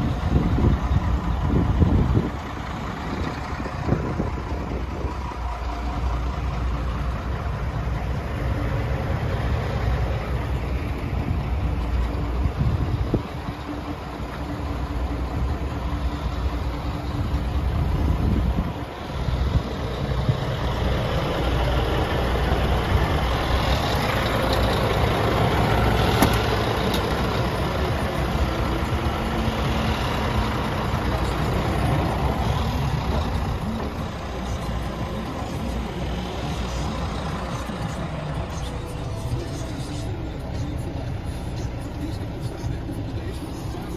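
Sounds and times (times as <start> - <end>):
truck diesel engine running: 0.0 - 43.9.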